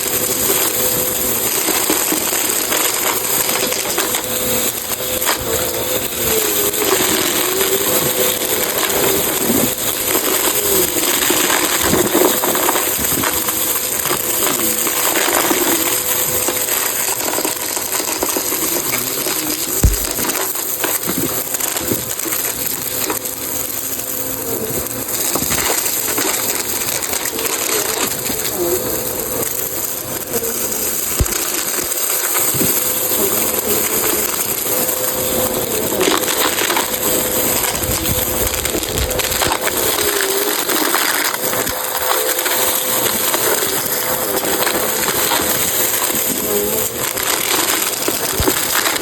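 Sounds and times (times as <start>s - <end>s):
debris crunching and rattling: 0.0s - 49.0s
vacuum cleaner motor humming: 0.0s - 49.0s.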